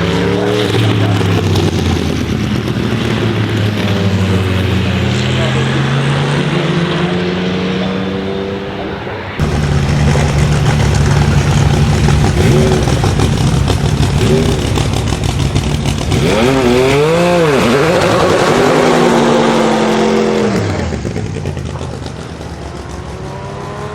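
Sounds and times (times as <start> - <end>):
race car engine running: 0.0 - 23.9.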